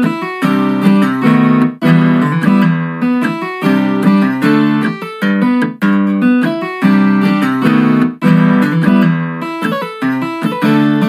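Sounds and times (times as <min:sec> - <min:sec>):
fingerstyle acoustic guitar: 0:00.0 - 0:11.0
percussive slaps on guitar strings: 0:00.9 - 0:11.0.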